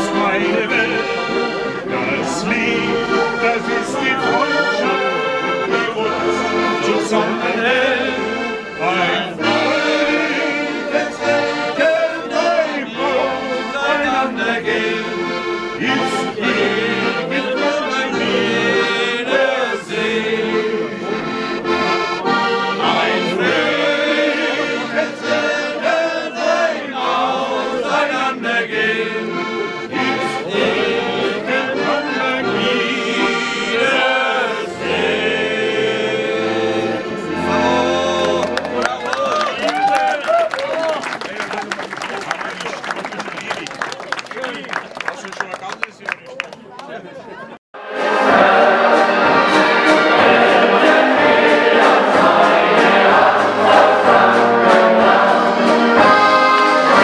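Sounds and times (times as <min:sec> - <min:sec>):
group of people singing: 0:00.0 - 0:38.8, 0:47.8 - 0:57.0
accordion playing folk tune: 0:00.0 - 0:39.7, 0:47.8 - 0:57.0.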